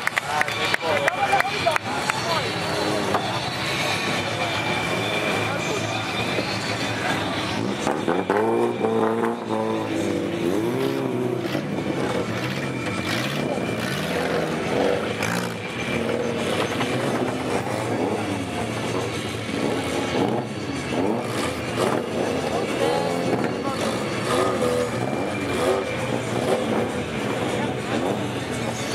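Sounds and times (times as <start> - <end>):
car engines revving: 0.0 - 28.9.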